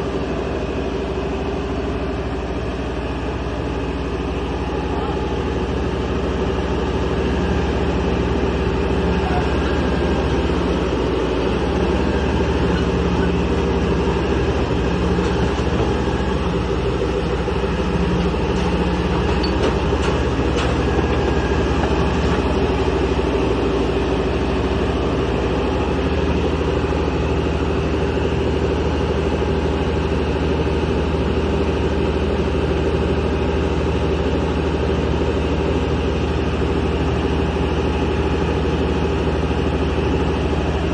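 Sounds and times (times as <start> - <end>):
drilling rig engine drone: 0.0 - 40.9.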